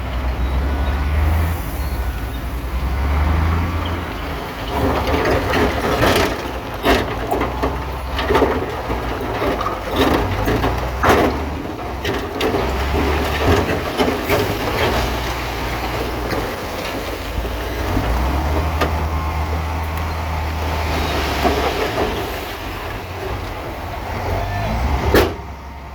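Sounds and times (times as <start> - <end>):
bulldozer diesel engine droning: 0.0 - 25.9.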